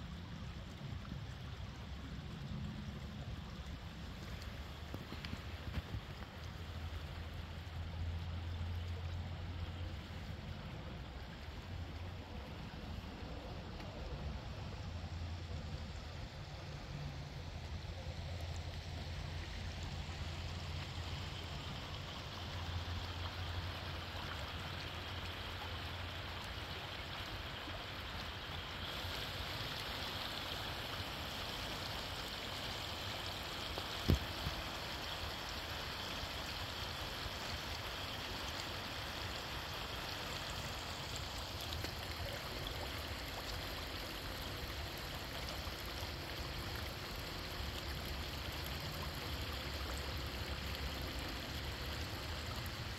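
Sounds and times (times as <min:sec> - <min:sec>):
water running over stones: 0:00.0 - 0:52.9.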